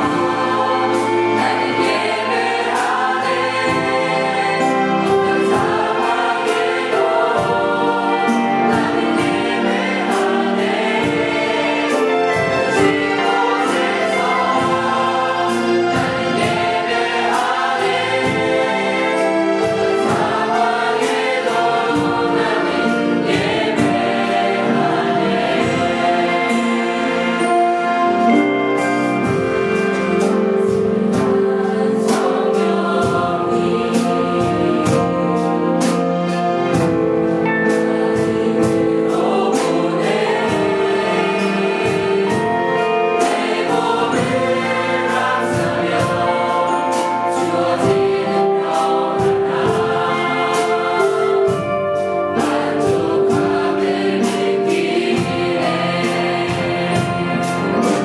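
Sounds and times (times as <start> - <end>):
drums steady beat: 0.0 - 58.0
keyboards: 0.0 - 58.0
mixed choir singing worship song: 0.0 - 58.0.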